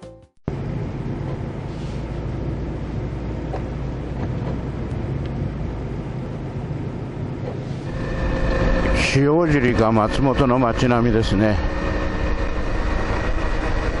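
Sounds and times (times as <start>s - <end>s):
road and wind noise: 0.5s - 14.0s
vehicle engine running: 0.5s - 14.0s.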